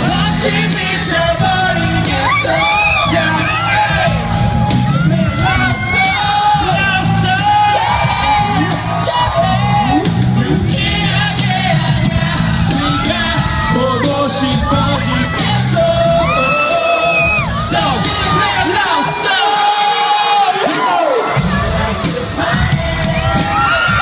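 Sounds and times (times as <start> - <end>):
crowd singing along and shouting: 0.0 - 24.0
loud live pop music: 0.0 - 24.0.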